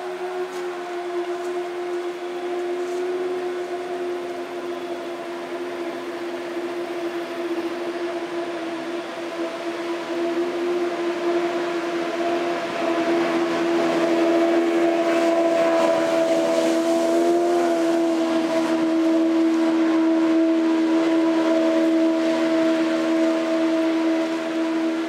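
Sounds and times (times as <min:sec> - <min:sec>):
motorboat engine drone: 0:00.0 - 0:25.0.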